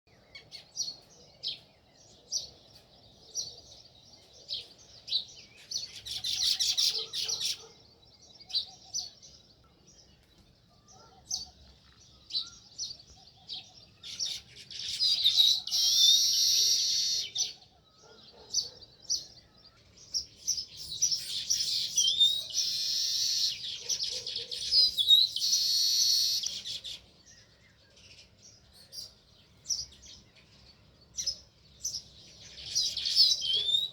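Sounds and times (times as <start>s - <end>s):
sparrows chirping: 0.1s - 33.9s.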